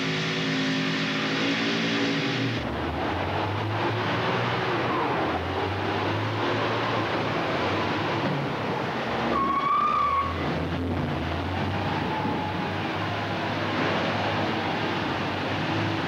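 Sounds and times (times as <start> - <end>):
loader diesel engine rumbling: 0.0 - 16.0.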